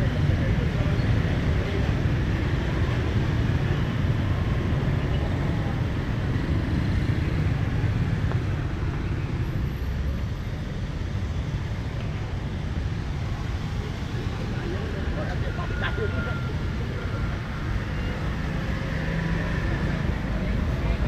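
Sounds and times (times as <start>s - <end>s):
passing vehicles rumble: 0.0s - 21.0s.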